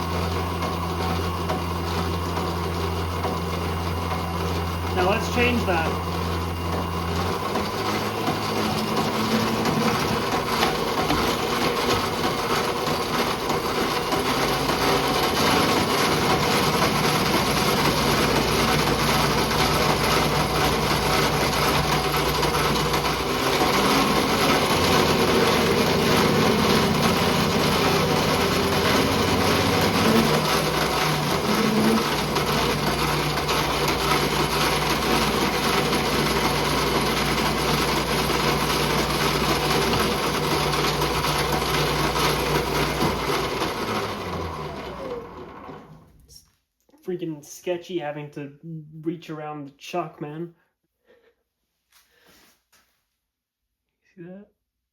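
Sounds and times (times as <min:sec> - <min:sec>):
lathe cutting tool turning: 0:00.0 - 0:46.0
lathe motor humming: 0:00.0 - 0:46.0.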